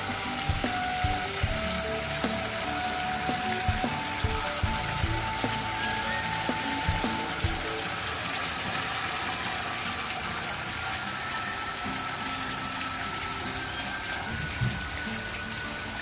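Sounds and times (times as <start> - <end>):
water splashing into a bucket: 0.0 - 16.0.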